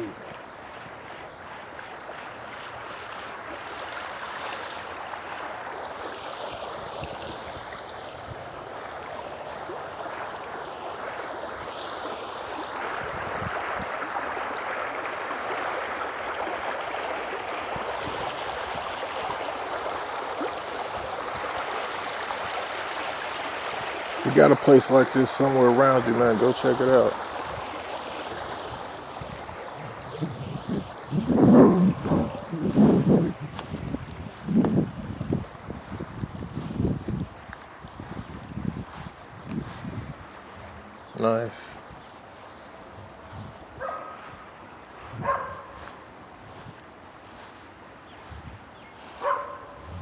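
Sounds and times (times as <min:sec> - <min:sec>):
stream water rushing: 0:00.0 - 0:50.0.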